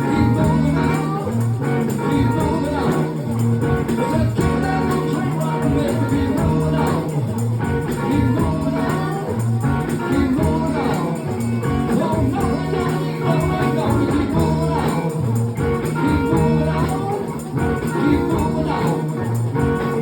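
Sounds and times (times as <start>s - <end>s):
live funk-rock band playing: 0.0s - 20.0s.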